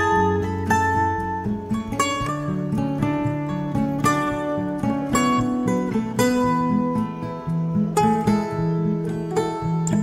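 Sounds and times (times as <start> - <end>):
plucked string background music: 0.0 - 10.0.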